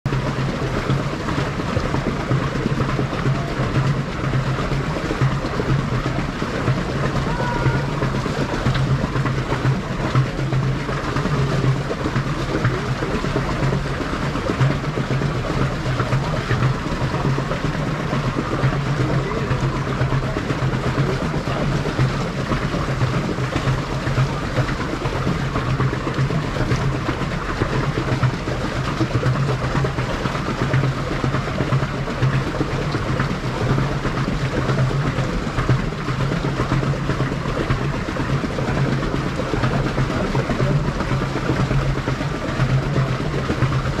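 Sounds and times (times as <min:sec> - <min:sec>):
boat motor humming: 0:00.1 - 0:44.0
water rushing along hull: 0:00.1 - 0:44.0.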